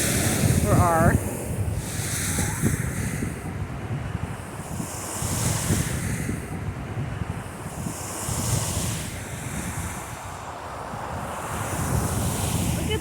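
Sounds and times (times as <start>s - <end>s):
waves washing onto sand beach: 0.0s - 13.0s
wind buffeting microphone: 0.0s - 13.0s.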